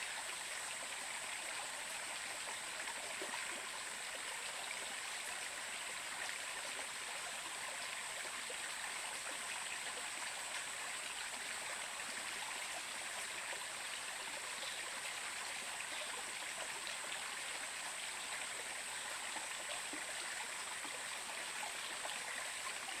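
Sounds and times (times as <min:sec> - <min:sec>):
stream water running: 0:00.0 - 0:23.0.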